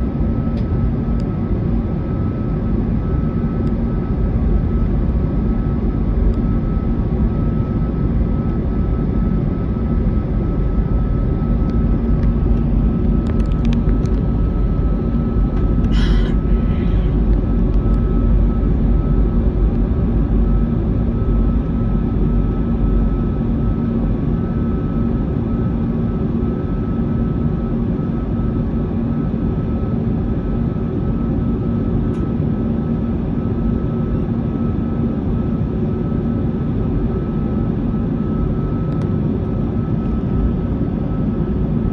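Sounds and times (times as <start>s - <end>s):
jet engine rumble: 0.0s - 41.9s.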